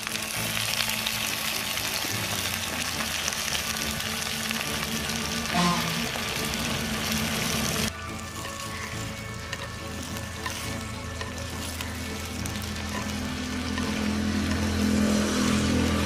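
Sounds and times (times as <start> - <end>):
wet leaves sizzling in hot oil: 0.0 - 16.0.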